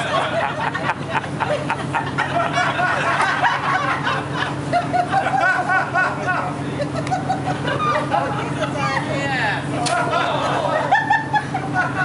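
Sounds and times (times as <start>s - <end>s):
low hum: 0.0s - 12.0s
people chattering and laughing: 0.0s - 12.0s.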